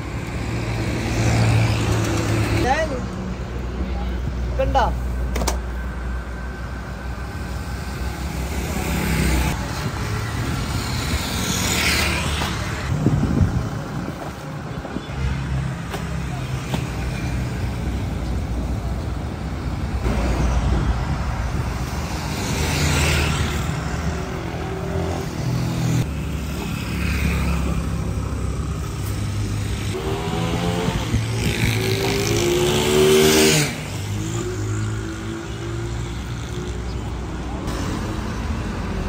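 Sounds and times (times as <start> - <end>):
motor vehicles running: 0.0 - 39.0
vehicles passing by: 0.0 - 39.0.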